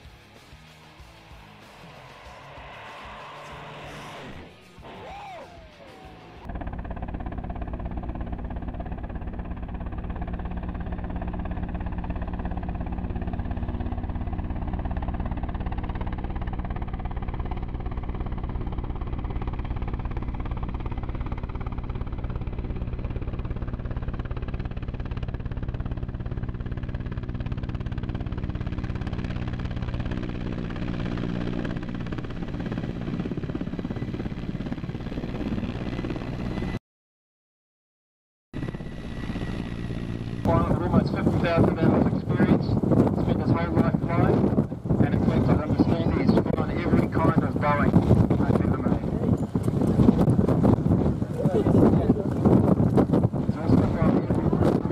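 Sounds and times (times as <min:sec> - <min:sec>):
helicopter turbine whine: 0:00.0 - 0:36.8, 0:38.6 - 0:54.9
helicopter rotor thumping: 0:01.1 - 0:36.8, 0:38.6 - 0:54.9.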